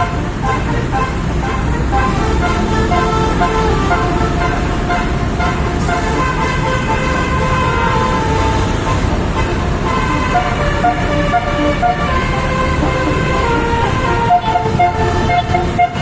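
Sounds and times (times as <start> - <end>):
bus engine rumble: 0.0 - 16.0
multi-tone air horn tune: 0.0 - 16.0
road traffic: 0.0 - 16.0.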